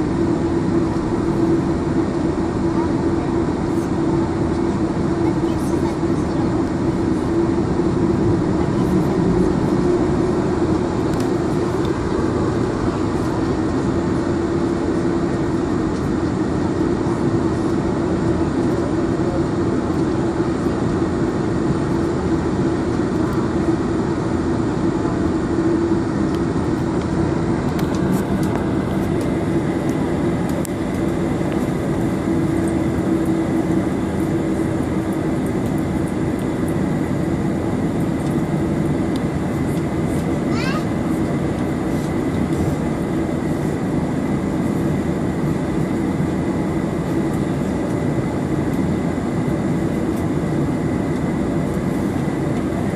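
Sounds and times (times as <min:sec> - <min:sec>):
airplane cabin engine hum: 0:00.0 - 0:52.9.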